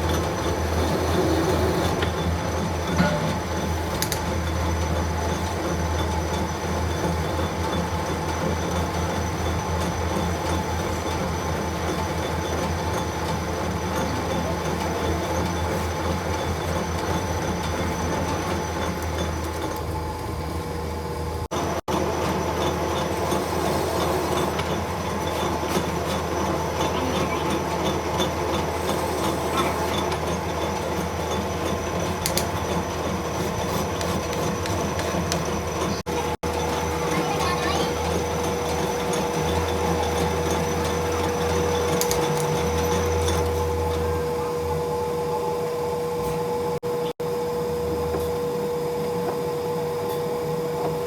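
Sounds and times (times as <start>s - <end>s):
lathe humming and whining: 0.0s - 51.0s.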